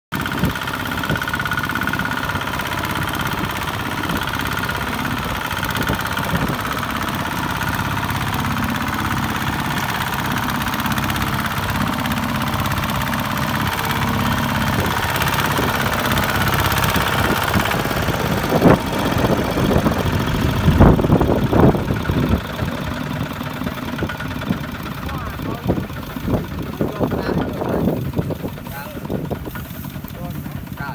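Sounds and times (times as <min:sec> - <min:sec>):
diesel engine running under load: 0:00.1 - 0:30.9
wheel churning through mud: 0:00.1 - 0:30.9.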